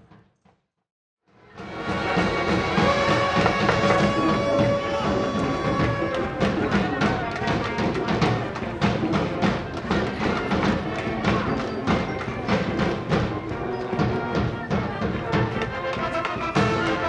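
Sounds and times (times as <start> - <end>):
brass band playing: 1.4 - 17.0
steady drum beat: 1.6 - 17.0.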